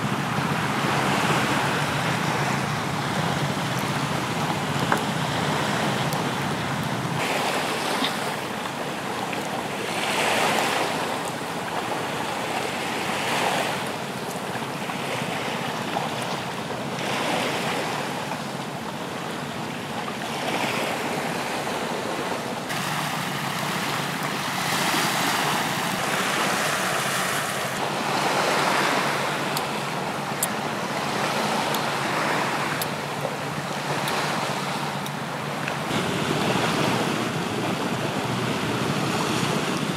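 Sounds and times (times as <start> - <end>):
surf washing onto beach: 0.0 - 39.9.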